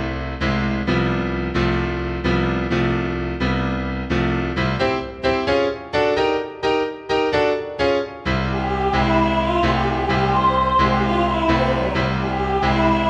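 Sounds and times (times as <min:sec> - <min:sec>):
sampled piano chords: 0:00.0 - 0:13.0.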